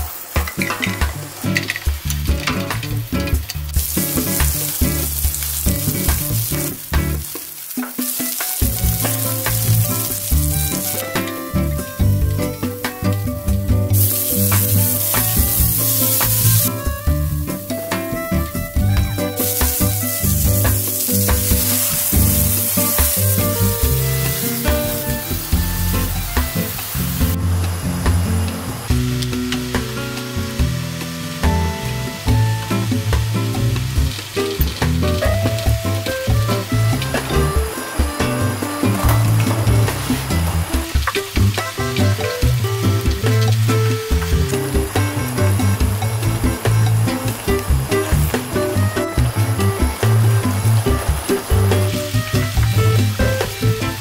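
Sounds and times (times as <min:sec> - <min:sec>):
background music: 0:00.0 - 0:54.0
onion and garlic sizzling in oil: 0:00.0 - 0:54.0.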